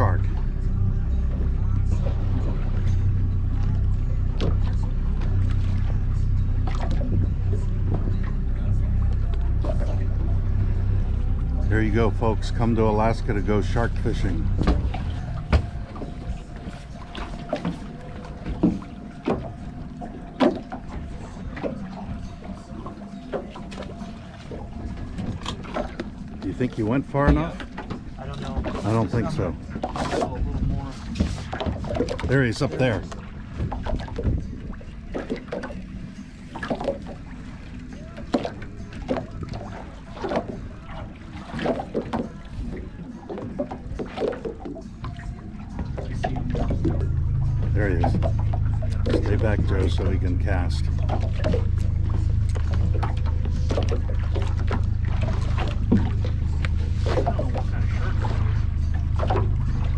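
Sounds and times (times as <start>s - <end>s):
steady low rumble: 0.0s - 59.9s
water slapping against boat: 0.0s - 59.9s.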